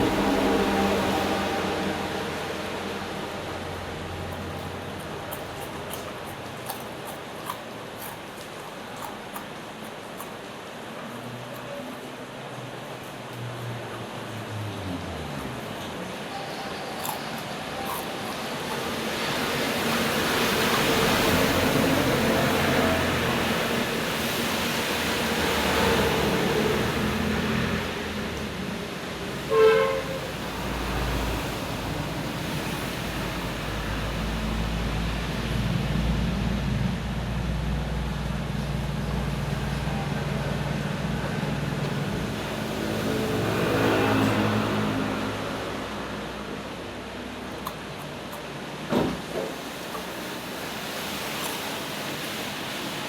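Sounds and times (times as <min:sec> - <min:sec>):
road traffic passing: 0:00.0 - 0:53.0.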